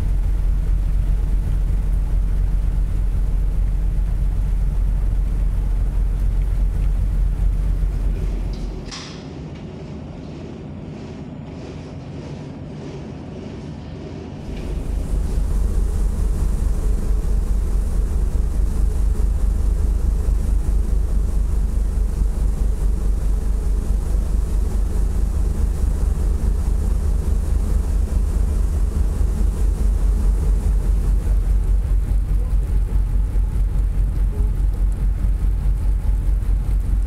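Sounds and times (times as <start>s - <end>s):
ship engine exhaust rumbling: 0.0s - 9.0s, 14.4s - 37.0s.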